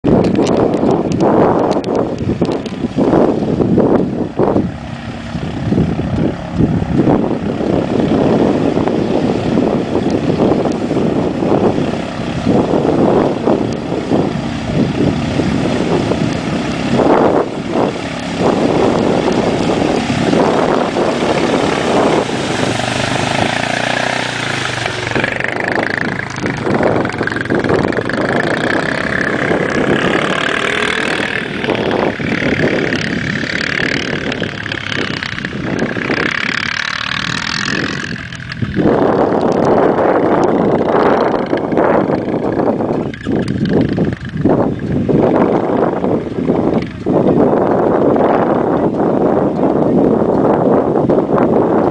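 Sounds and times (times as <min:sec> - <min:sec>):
rough gusty noise: 0:00.0 - 0:51.9
atv engines revving: 0:00.1 - 0:51.9.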